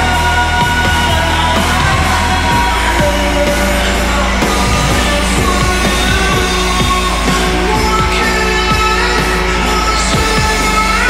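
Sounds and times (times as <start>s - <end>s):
loud music with drum beat: 0.0s - 11.0s.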